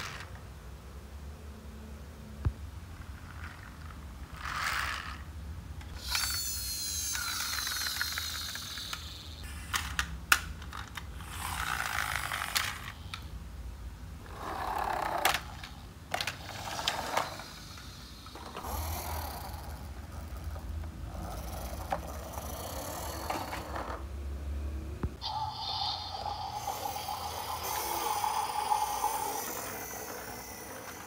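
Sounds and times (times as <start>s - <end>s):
toy wheels rolling on tiled floor: 0.0s - 0.4s, 3.0s - 5.3s, 5.9s - 13.2s, 14.2s - 24.0s, 25.3s - 31.0s.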